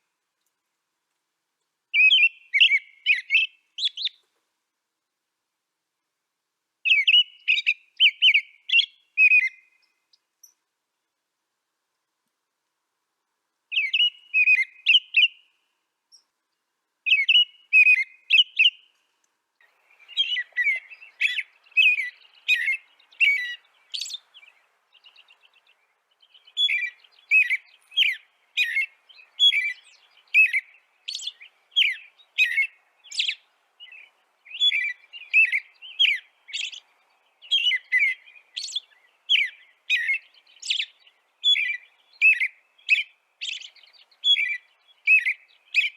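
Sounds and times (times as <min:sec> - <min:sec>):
bird chirping: 0:01.9 - 0:04.3, 0:06.8 - 0:10.7, 0:13.7 - 0:45.9.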